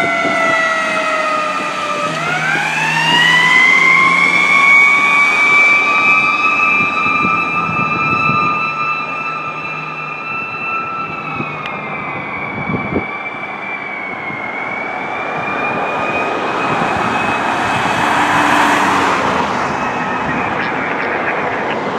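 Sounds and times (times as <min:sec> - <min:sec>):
fire truck siren: 0:00.0 - 0:21.9
traffic noise: 0:00.0 - 0:21.9.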